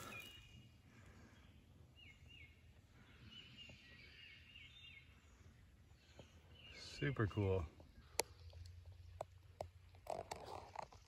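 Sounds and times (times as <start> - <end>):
faint whistled bird song: 0.0 - 9.3.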